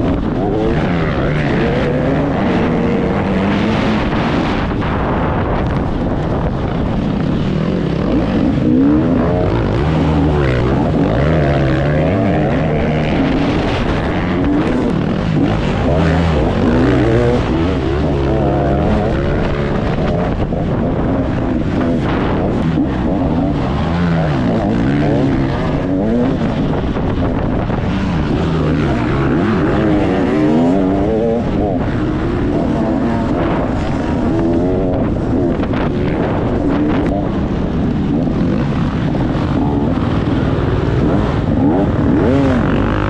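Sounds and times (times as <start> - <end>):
motocross bike engine revving: 0.0 - 43.0.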